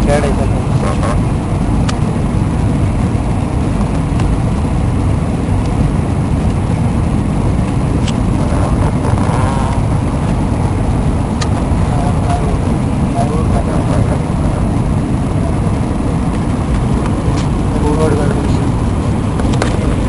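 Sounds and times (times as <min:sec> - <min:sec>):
jet engines roaring: 0:00.0 - 0:20.0
rushing air: 0:00.0 - 0:20.0.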